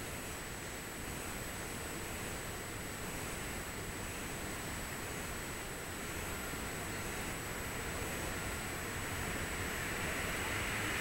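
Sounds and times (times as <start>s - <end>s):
even hiss: 0.0s - 11.0s
faint high-pitched whine: 0.0s - 11.0s.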